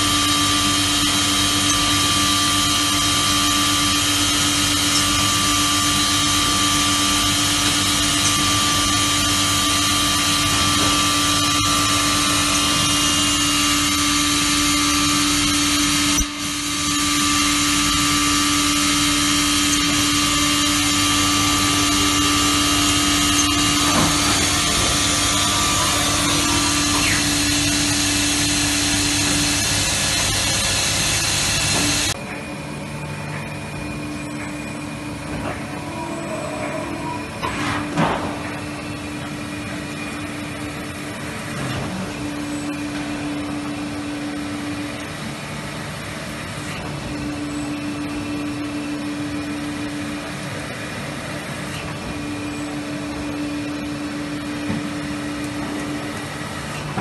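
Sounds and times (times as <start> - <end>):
machining centre spindle whine: 0.0 - 57.0.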